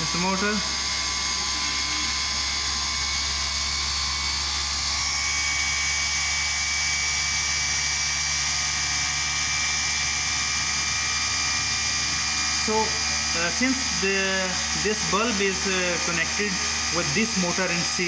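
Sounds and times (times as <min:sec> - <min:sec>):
motor high-pitched whine: 0:00.0 - 0:18.0.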